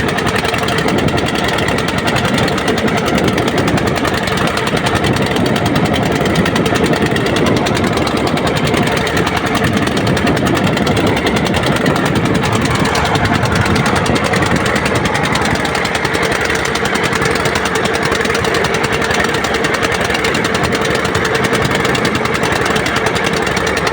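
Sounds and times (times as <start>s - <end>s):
boat engine chugging: 0.0s - 23.9s.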